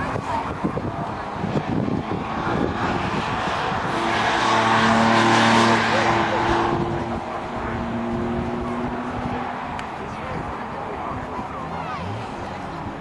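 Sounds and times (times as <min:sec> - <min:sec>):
race car passing at speed: 0:00.0 - 0:13.0.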